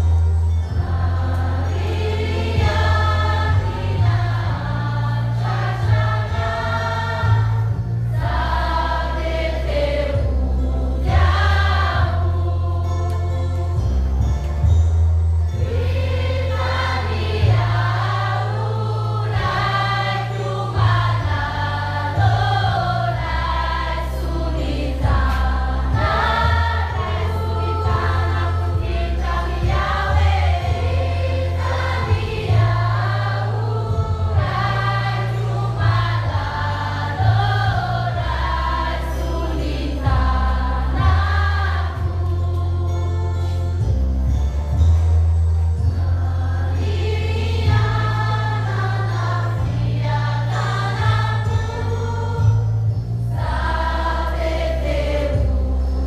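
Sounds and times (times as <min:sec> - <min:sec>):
choir singing: 0:00.0 - 0:14.4, 0:15.5 - 0:43.8, 0:45.8 - 0:56.0.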